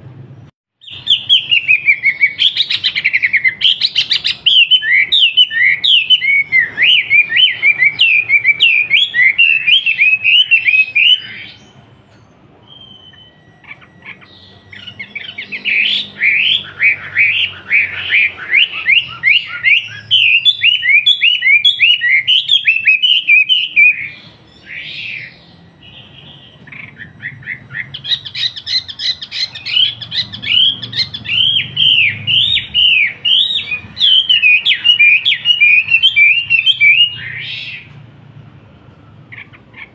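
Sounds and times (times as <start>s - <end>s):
songbird singing high chirps: 0.8s - 38.0s.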